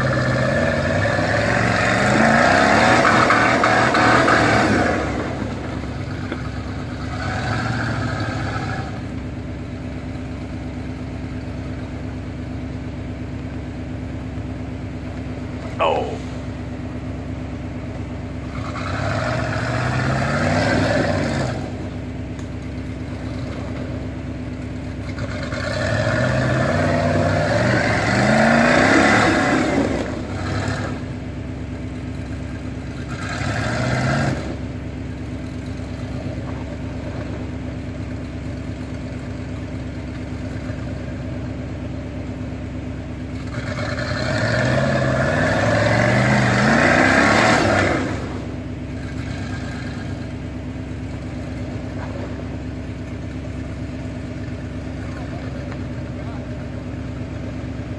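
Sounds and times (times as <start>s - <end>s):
buggy engine revving and idling: 0.0s - 57.9s.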